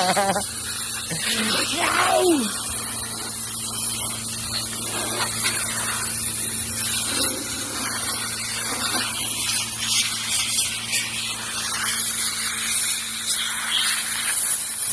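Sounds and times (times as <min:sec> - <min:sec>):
pressure washer motor hum: 0:00.0 - 0:14.9
water jet hissing: 0:00.0 - 0:14.9.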